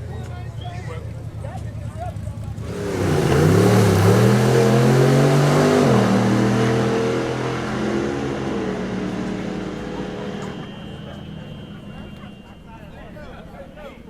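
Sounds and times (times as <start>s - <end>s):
drag race car accelerating: 1.0s - 13.5s.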